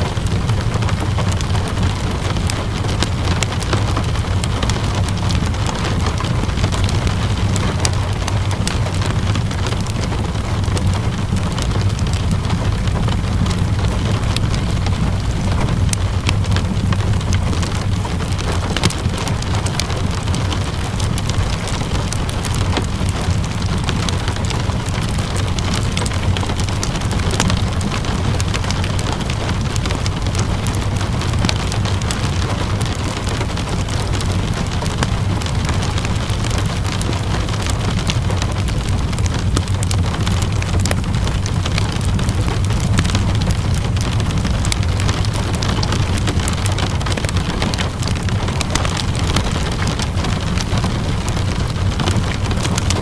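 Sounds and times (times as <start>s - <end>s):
low rumble: 0.0s - 53.0s
steady rainfall: 0.0s - 53.0s
wood fire crackling: 0.0s - 53.0s.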